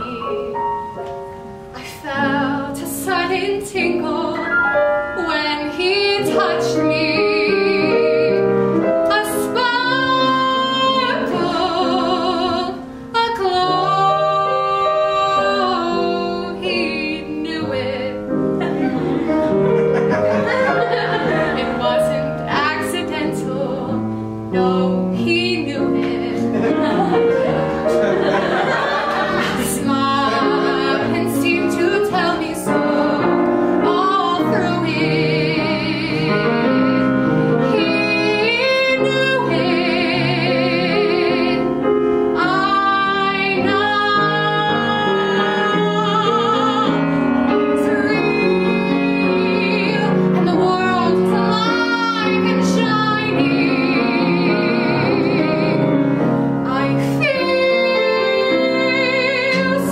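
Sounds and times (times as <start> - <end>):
woman singing a ballad: 0.0 - 0.6, 1.7 - 18.8, 20.5 - 27.4, 29.2 - 59.9
grand piano accompaniment: 0.0 - 59.9.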